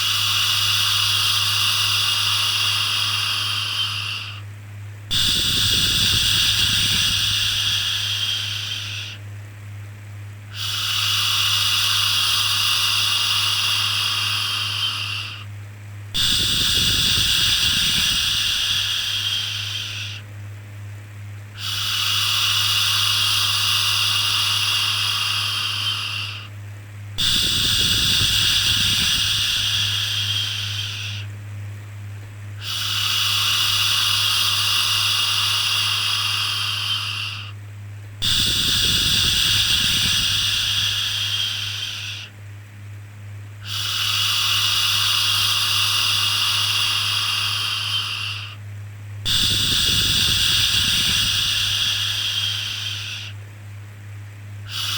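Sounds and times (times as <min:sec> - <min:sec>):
constant low hum: 0:00.0 - 0:54.9.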